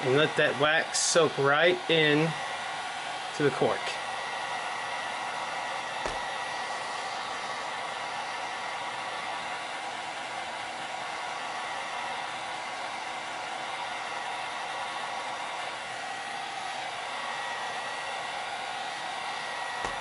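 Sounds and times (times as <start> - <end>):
heat gun blowing with high whine: 0.0 - 20.0.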